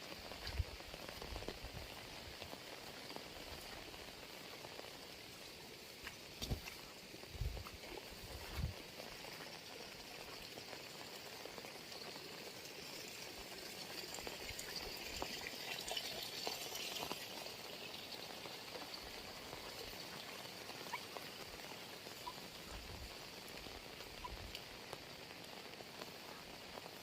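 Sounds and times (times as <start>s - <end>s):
heavy rain falling: 0.0s - 15.5s, 17.2s - 27.0s.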